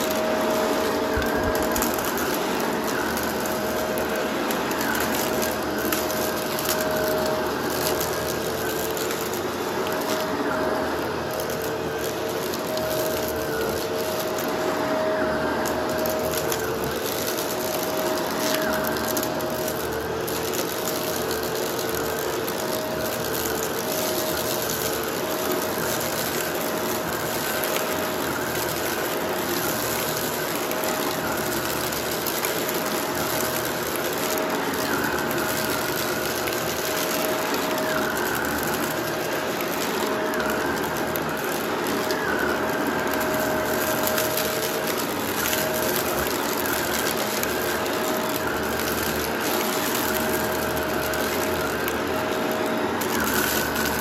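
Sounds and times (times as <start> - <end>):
debris rattling in vacuum: 0.0 - 54.0
vacuum cleaner running on a rug: 0.0 - 54.0.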